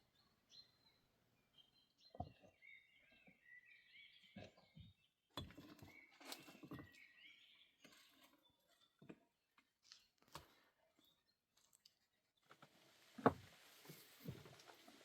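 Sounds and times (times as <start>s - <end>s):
faint birdsong: 0.0s - 12.5s.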